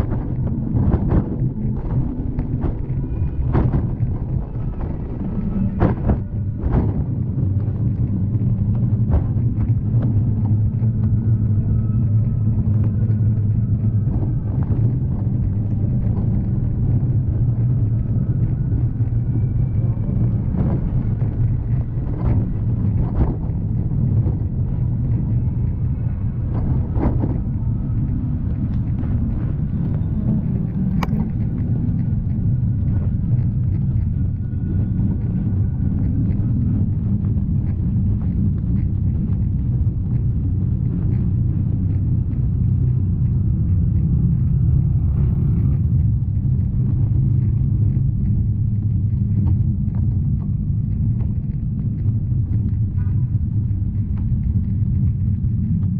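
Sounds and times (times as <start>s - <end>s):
bicycle rumbling on wet street: 0.0s - 55.9s
wind buffeting microphone: 0.0s - 55.9s.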